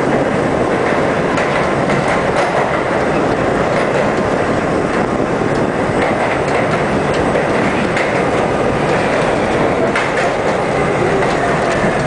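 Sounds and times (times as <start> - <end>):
subway train rumbling: 0.0 - 12.0
wheels clicking over track: 0.0 - 12.0.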